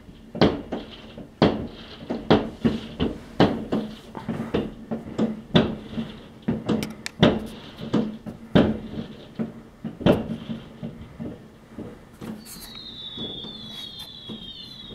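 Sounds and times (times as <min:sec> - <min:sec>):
fireworks bangs and cracks: 0:00.0 - 0:14.9.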